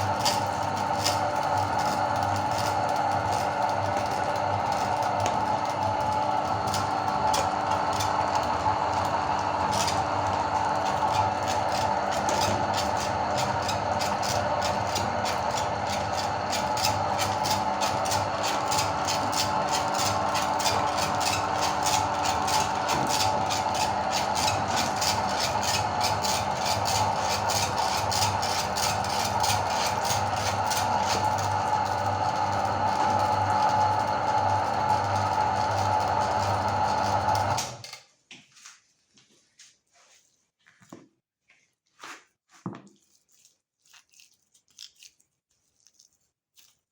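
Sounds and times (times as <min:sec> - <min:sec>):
meat grinder motor humming: 0:00.0 - 0:38.0.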